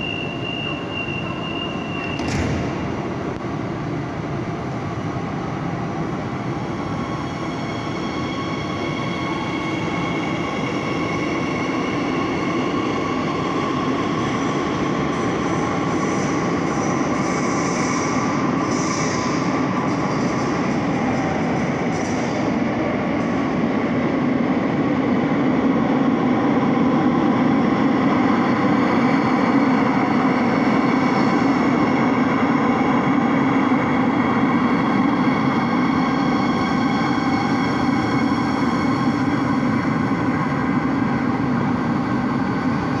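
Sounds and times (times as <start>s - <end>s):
train rumbling into station: 0.0s - 43.0s.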